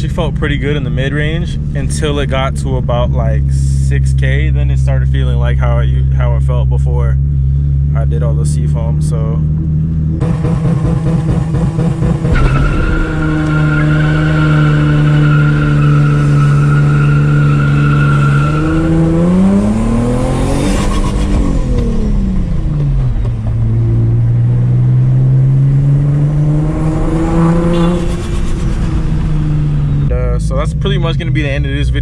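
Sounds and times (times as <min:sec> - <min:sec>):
car engine droning with whine: 0:00.0 - 0:32.0.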